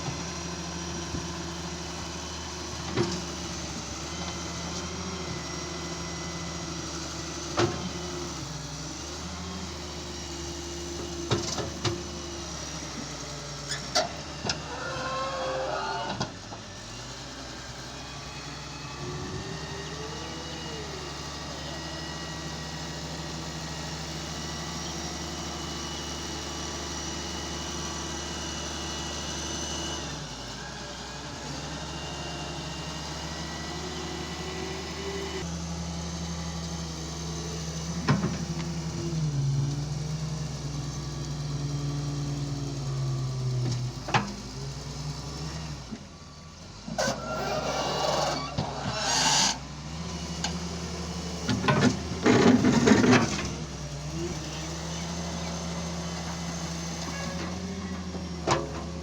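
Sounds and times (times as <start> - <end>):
heavy vehicle engine running: 0.0 - 59.0.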